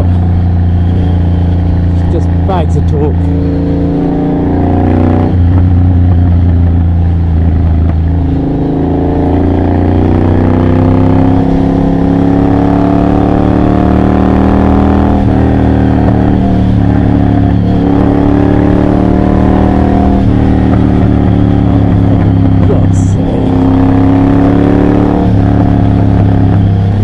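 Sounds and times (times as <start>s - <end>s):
motorcycle engine pulling at low revs: 0.0s - 27.0s.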